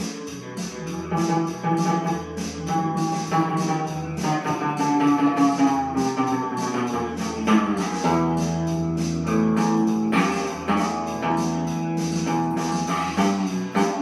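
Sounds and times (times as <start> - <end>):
blues guitar music with beat: 0.0 - 14.0.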